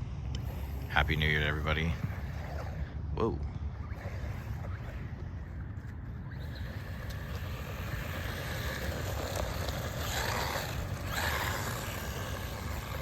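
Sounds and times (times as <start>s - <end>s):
rc car driving over rough ground: 0.3s - 13.0s.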